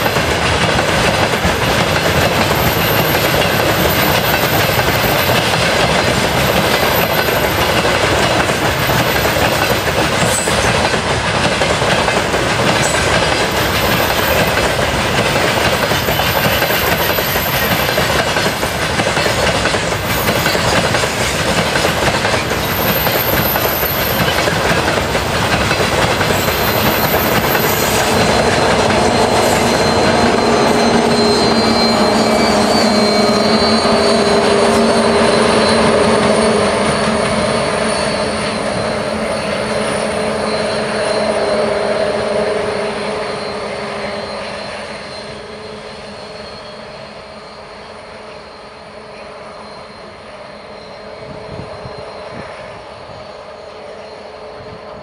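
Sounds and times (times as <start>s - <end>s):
train wheels clattering on rails: 0.0s - 46.5s
diesel locomotive engine drone: 0.0s - 55.0s.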